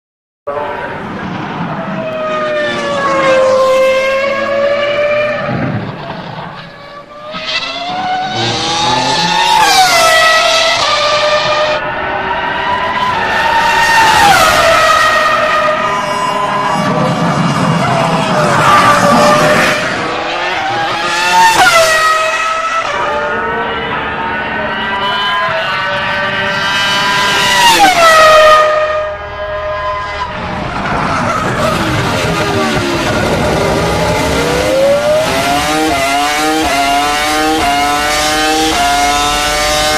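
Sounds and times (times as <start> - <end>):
racing car engine at high revs: 0.5 - 39.9.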